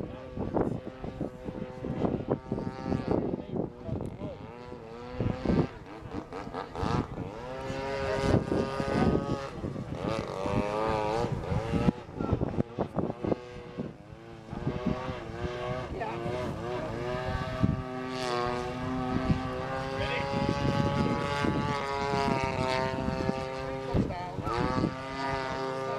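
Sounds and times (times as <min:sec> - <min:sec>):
model airplane propeller engine: 0:00.0 - 0:25.9.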